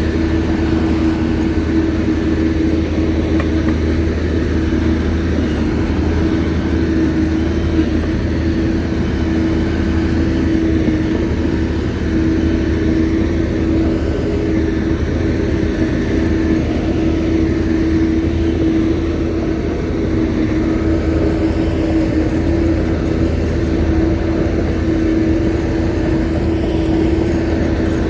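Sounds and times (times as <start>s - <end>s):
bulldozer diesel engine rumbling: 0.0s - 28.0s.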